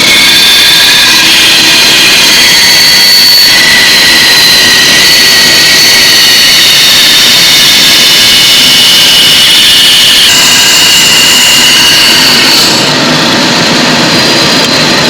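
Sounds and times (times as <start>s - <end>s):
power saw whining: 0.0s - 15.0s.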